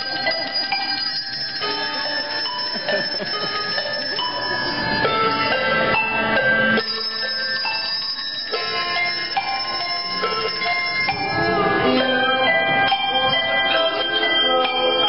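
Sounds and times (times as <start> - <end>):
handbells playing a melody: 0.0 - 15.0.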